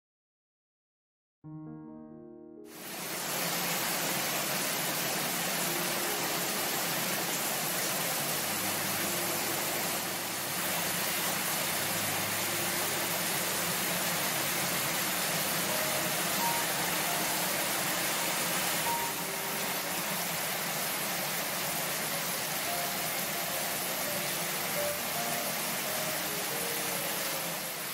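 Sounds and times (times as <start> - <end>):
heavy rain on trees: 2.7 - 27.9.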